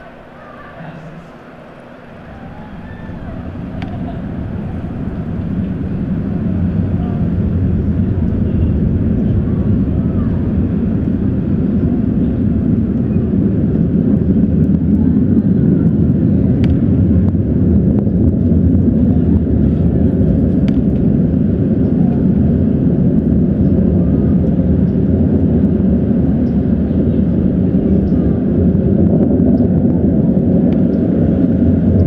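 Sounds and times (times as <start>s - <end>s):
rocket engines roaring: 0.0s - 32.0s.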